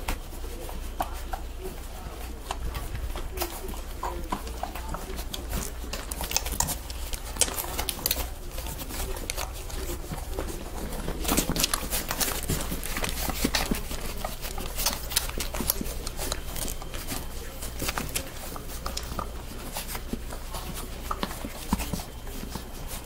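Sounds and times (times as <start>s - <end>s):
puppies sucking and smacking: 0.0s - 23.0s.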